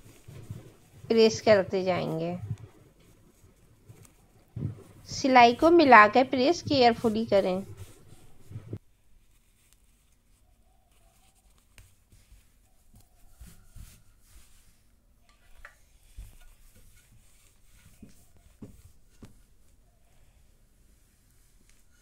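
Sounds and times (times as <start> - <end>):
cloth rustling: 0.0 - 22.0.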